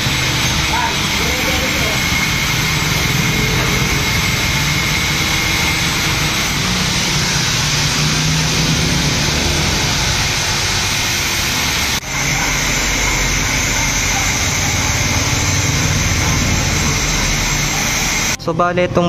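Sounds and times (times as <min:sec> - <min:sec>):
loud machine noise: 0:00.0 - 0:19.0.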